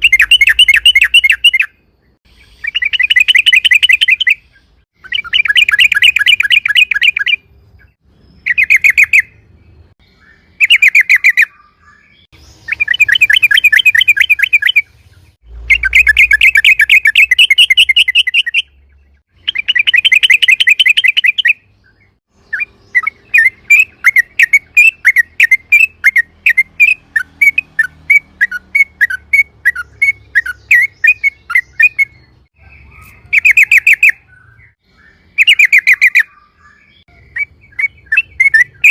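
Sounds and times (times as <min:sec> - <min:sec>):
bird bubbling song: 0:00.0 - 0:38.9
bird quick chirps: 0:00.0 - 0:38.9.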